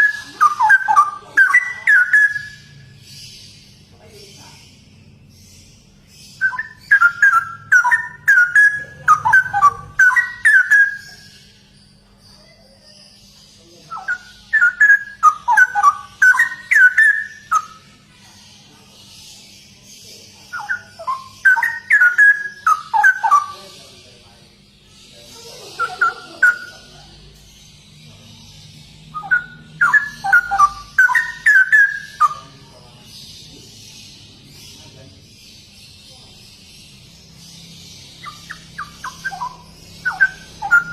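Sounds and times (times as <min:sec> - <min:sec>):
bird singing whistled notes: 0:00.0 - 0:04.6, 0:05.4 - 0:40.9.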